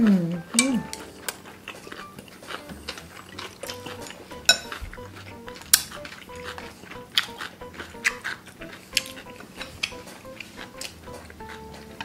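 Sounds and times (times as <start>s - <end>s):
quiet background music: 0.0s - 12.0s
chopsticks clicking on glass bowls: 0.5s - 12.0s.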